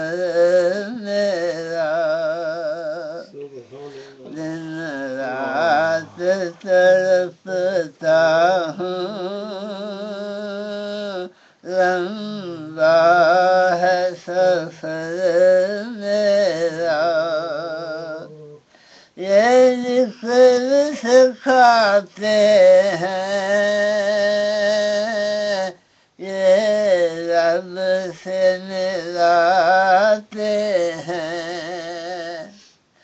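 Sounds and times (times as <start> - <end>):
person singing devotional hymn: 0.0 - 32.7.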